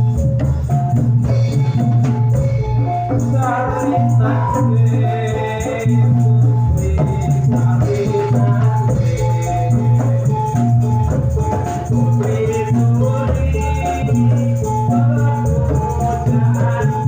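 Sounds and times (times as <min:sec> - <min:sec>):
gamelan music over a sound system: 0:00.0 - 0:17.0.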